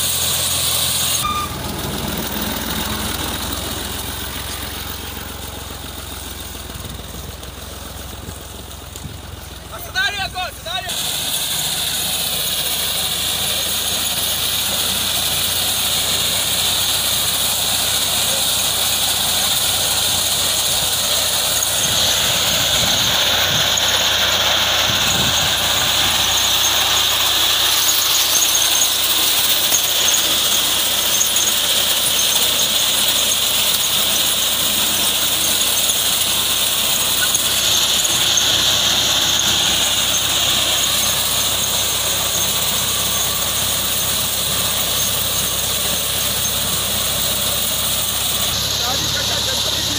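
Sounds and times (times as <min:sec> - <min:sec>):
high-pitched machinery whine: 0:00.0 - 0:07.2, 0:10.6 - 0:49.9
tractor engine running: 0:00.0 - 0:49.9.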